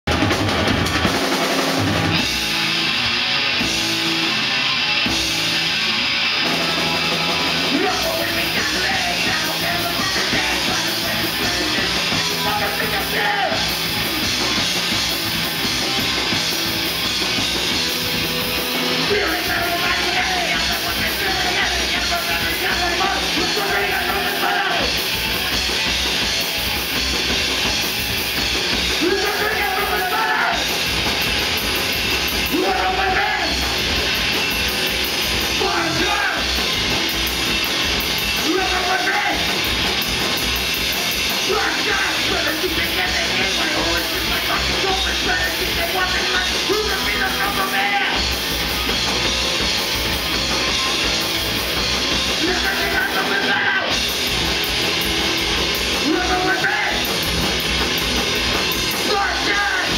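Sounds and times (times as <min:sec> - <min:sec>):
loud rock music: 0:00.0 - 0:59.9.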